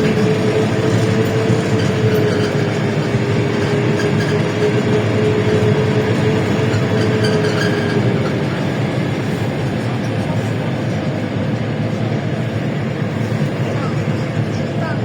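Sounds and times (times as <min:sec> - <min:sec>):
bus running and road noise: 0:00.0 - 0:15.0.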